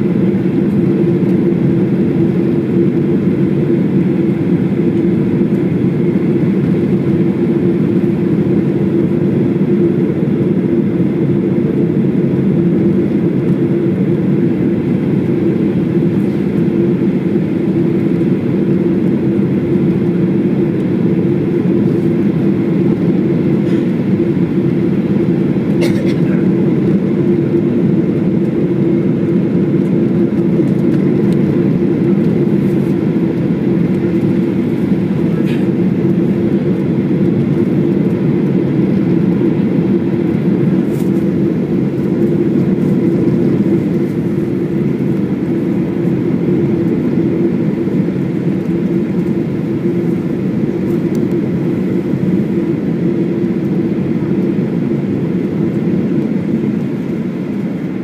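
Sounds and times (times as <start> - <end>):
jet engine and cabin airflow noise: 0.0 - 58.0.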